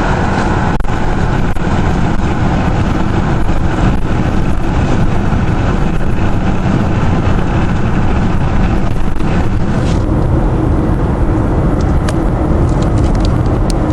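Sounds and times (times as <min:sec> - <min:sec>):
diesel truck engine running: 0:00.0 - 0:13.9.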